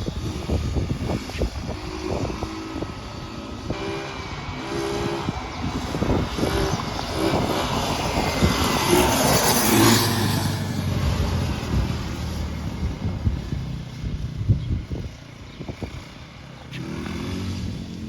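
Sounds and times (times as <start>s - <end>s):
quad engine revving unevenly: 0.0s - 18.0s.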